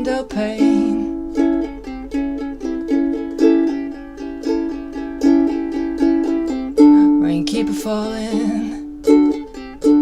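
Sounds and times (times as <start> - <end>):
ukulele strumming: 0.0 - 10.0.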